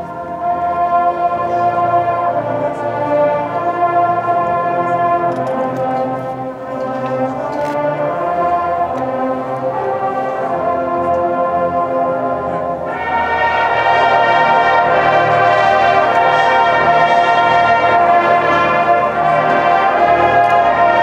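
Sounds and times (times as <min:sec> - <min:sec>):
marching bands brass chords: 0:00.0 - 0:21.0.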